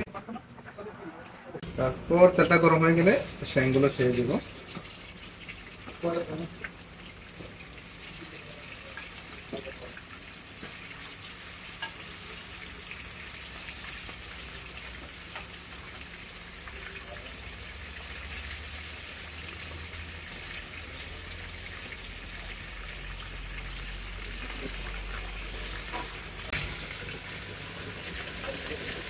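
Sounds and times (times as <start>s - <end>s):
meat sizzling in hot oil: 2.4s - 29.0s.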